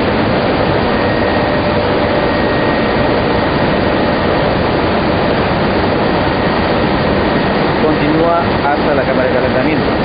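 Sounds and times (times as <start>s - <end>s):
faint high whine: 0.0s - 10.0s
industrial machinery air rush: 0.0s - 10.0s.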